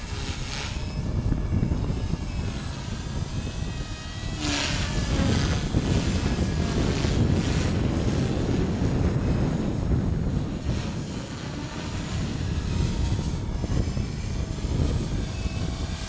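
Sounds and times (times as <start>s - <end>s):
rc helicopter motor whine: 0.0s - 16.0s
wind buffeting microphone: 0.0s - 16.0s.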